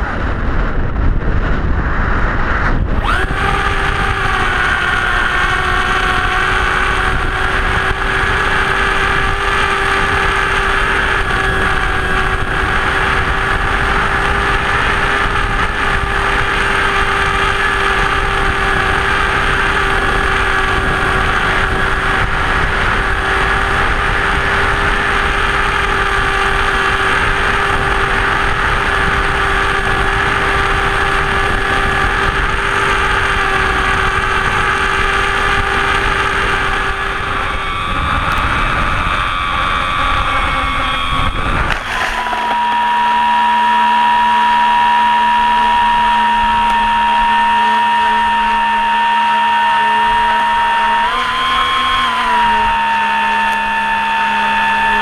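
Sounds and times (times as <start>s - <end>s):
wind rush: 0.0s - 49.3s
electric motor whine: 0.0s - 55.0s.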